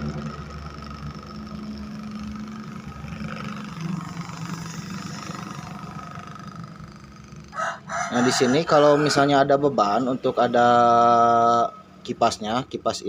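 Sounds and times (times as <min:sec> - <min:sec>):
fan motor humming with snoring growl: 0:00.0 - 0:13.0.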